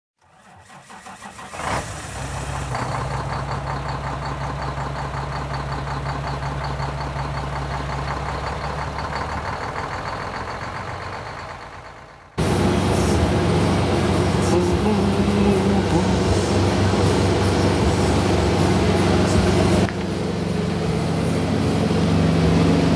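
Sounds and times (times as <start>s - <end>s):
diesel truck engine starting and idling: 0.2s - 22.9s.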